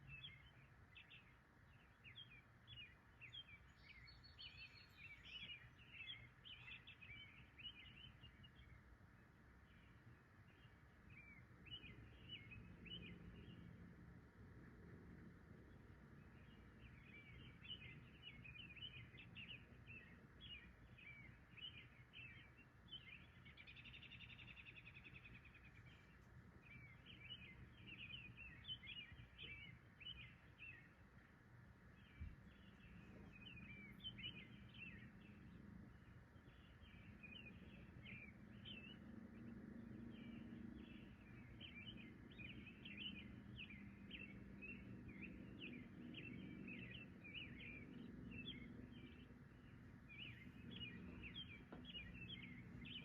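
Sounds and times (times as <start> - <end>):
birds chirping: 0.0 - 53.0
faint low hum: 0.0 - 53.0.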